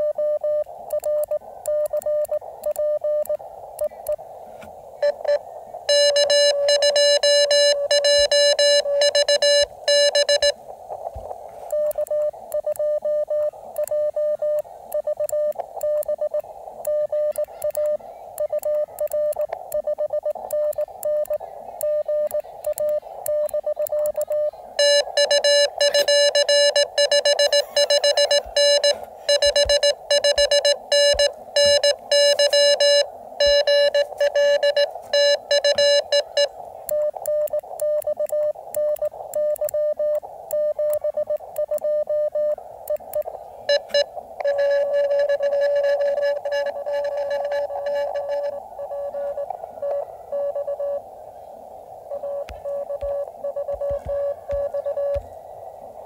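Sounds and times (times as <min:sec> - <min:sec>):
radio band noise: 0:00.0 - 0:56.0
morse code tone: 0:05.0 - 0:10.6, 0:11.7 - 0:51.0, 0:52.1 - 0:55.2.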